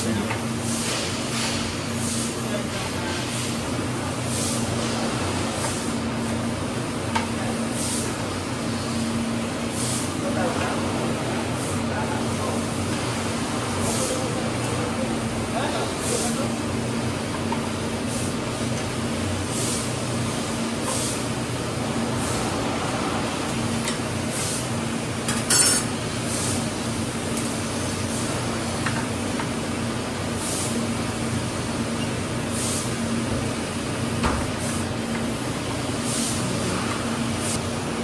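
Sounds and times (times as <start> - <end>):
low machine hum: 1.7 - 38.0.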